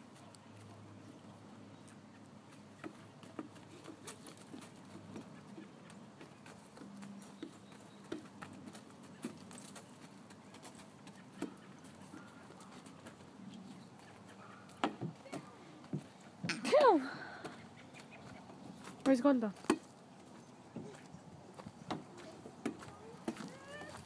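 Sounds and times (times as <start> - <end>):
footsteps on wood chips: 2.5 - 16.5, 17.4 - 24.0.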